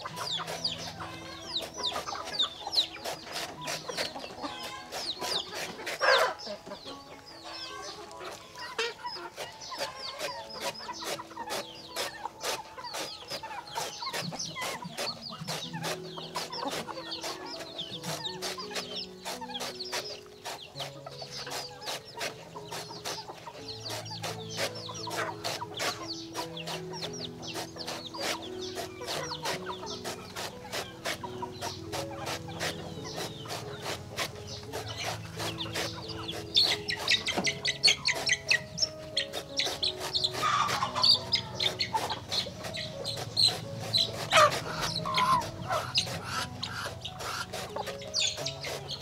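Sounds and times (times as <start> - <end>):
background music: 0.0 - 49.0
chickens clucking: 0.0 - 49.0.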